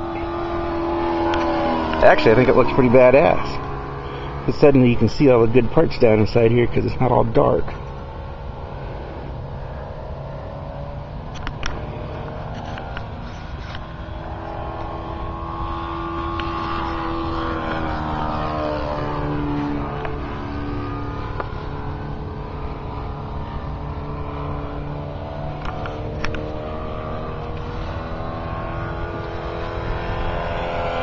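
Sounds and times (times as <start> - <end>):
model helicopter whine: 0.0 - 31.0.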